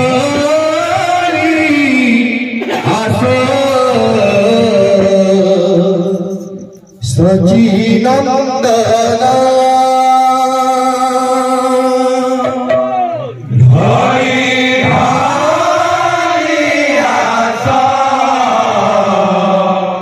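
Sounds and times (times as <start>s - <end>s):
men chanting a devotional song: 0.0s - 20.0s.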